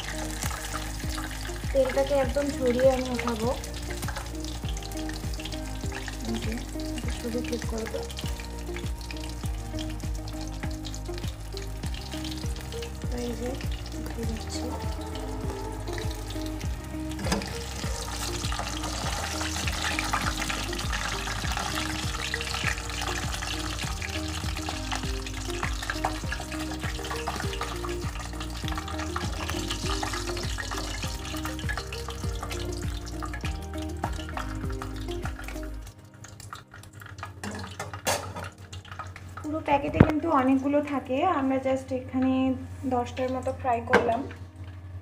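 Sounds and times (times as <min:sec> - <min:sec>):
food frying in hot oil: 0:00.0 - 0:44.8
background music: 0:00.0 - 0:45.0.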